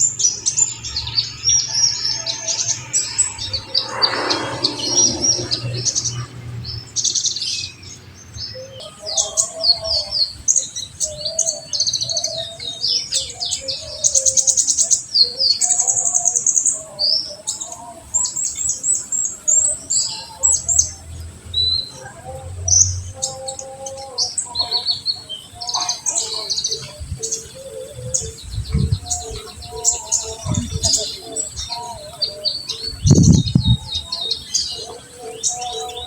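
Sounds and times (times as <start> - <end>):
sunbird singing: 0.0 - 17.6, 18.2 - 36.0.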